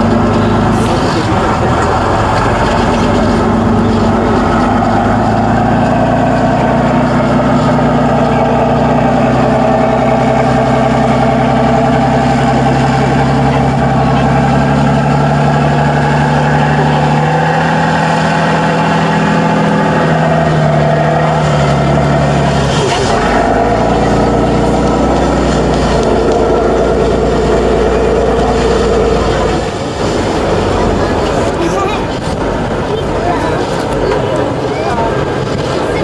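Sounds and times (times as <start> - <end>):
truck diesel engine under load: 0.0 - 36.0.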